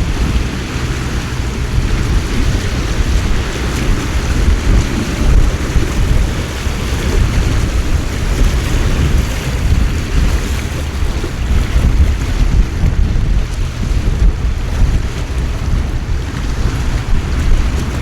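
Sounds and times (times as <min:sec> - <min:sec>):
heavy rain pouring: 0:00.0 - 0:18.0
wind buffeting microphone: 0:00.0 - 0:18.0.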